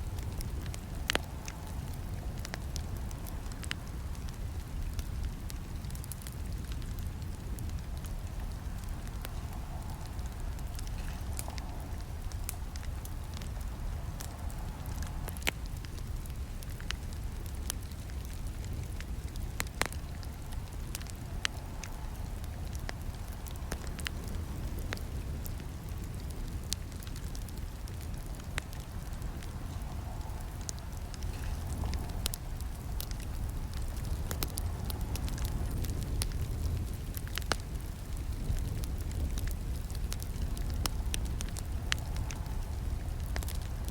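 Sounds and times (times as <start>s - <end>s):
burning wood crackling and popping: 0.0s - 43.9s
low rumble of flames: 0.0s - 43.9s.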